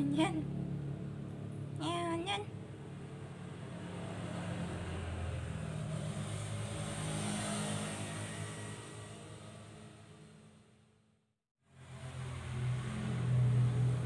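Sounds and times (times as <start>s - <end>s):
vehicle engine drone: 0.0s - 10.7s, 11.7s - 14.0s.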